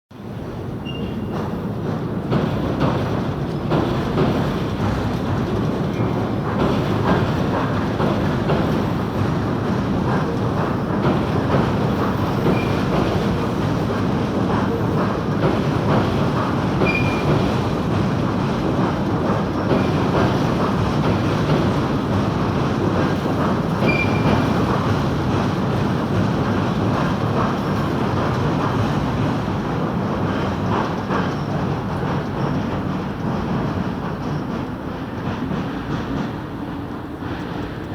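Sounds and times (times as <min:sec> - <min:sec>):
train rumbling on tracks: 0:00.1 - 0:37.9
wheels clacking over rail joints: 0:00.9 - 0:37.9.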